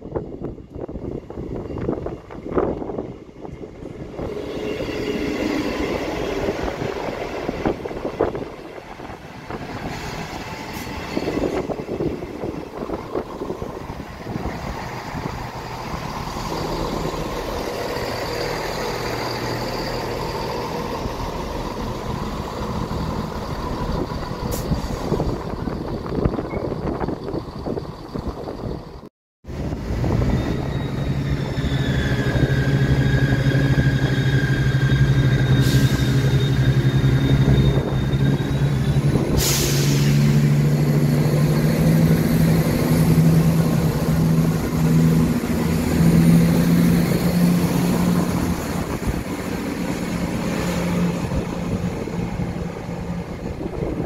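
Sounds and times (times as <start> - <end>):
diesel train engine running: 0.0 - 54.0.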